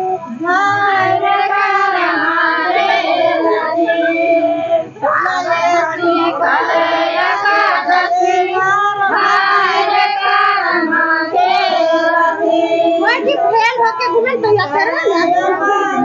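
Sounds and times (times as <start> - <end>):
girls singing in unison: 0.0 - 16.0.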